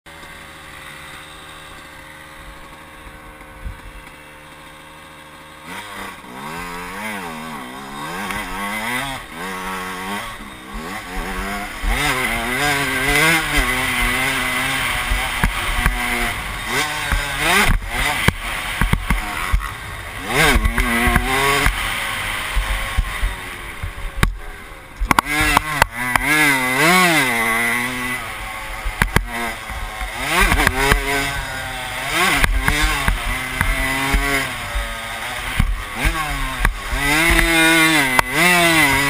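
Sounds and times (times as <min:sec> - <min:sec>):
dirt bike engine revving: 0:00.1 - 0:39.0.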